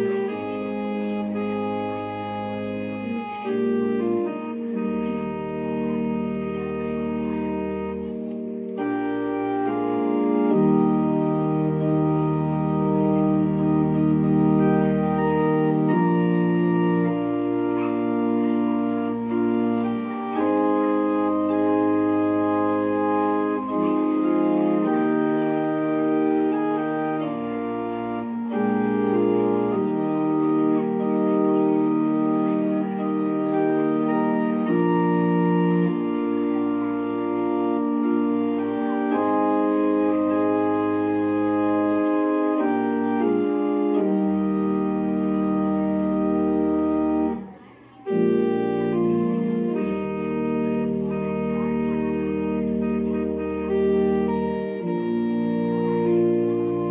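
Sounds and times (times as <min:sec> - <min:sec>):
church organ chords: 0:00.0 - 0:56.9
deep organ pedal bass: 0:00.0 - 0:56.9.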